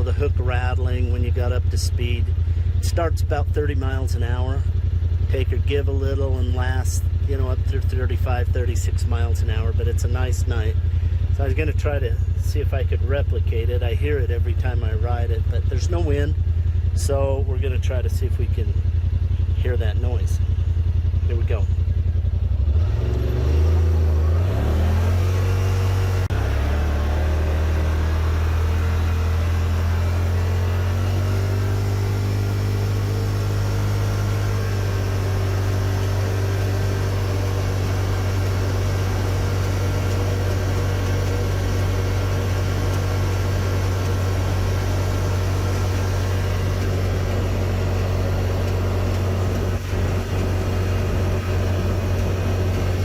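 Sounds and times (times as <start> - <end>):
vehicle engine accelerating: 0.0 - 53.0.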